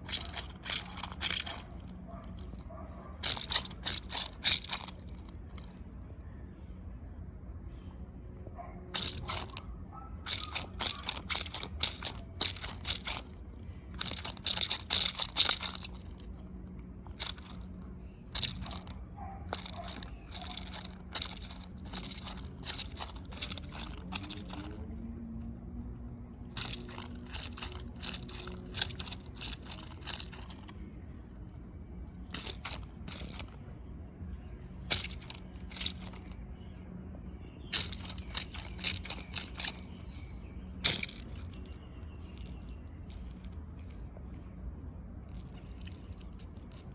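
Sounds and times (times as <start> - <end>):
squeeze toy crunching: 0.0 - 5.8, 8.9 - 25.5, 26.3 - 33.6, 34.8 - 36.4, 37.6 - 40.2, 40.8 - 44.0, 45.2 - 46.9.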